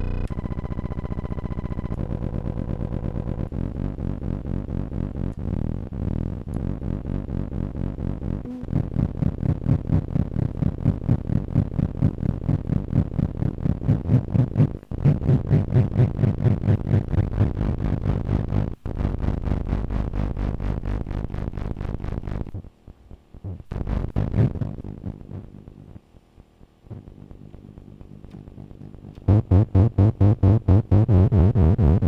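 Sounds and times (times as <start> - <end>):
pulsing electronic buzzing drone: 0.0 - 22.7, 23.4 - 26.0, 26.9 - 32.0.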